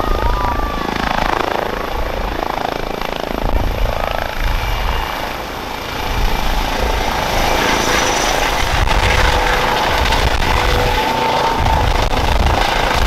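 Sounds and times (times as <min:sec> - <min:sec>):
helicopter rotor chopping: 0:00.0 - 0:13.0
turbine engine whine: 0:00.0 - 0:13.0.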